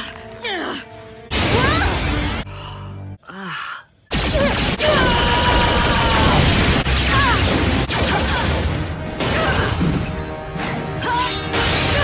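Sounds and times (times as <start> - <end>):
dramatic music: 0.0 - 3.2, 4.1 - 12.0.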